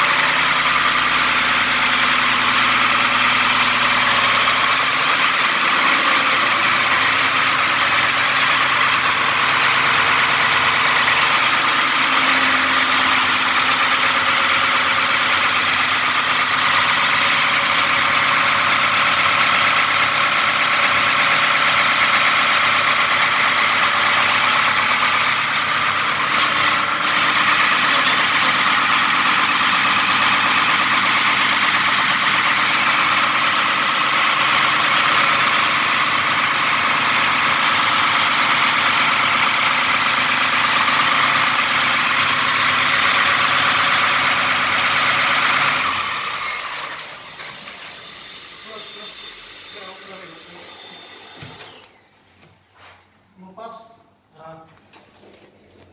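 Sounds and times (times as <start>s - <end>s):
diesel engine running loudly: 0.0s - 51.5s.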